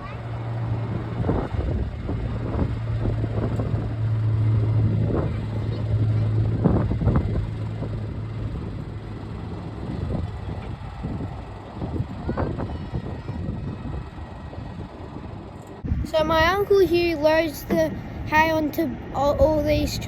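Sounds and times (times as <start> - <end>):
farm machinery engine humming: 0.0 - 20.0.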